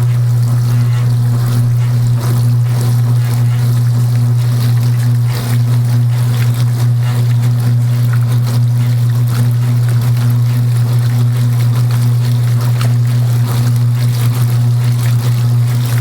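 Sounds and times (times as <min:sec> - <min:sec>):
washing machine motor hum: 0:00.0 - 0:16.0
water trickling and sloshing: 0:00.0 - 0:16.0.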